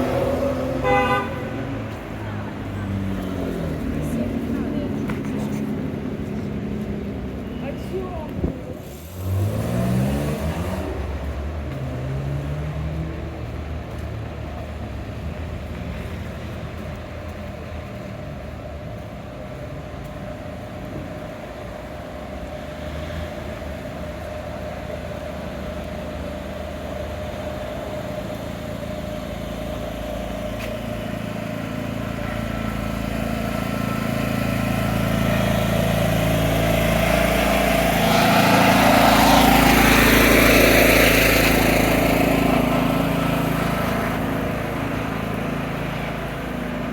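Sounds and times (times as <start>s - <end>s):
vehicle engine revving: 0.0s - 7.5s, 8.8s - 18.5s, 22.5s - 46.9s
engines running steadily: 0.0s - 46.9s
vehicle approaching: 0.0s - 46.9s.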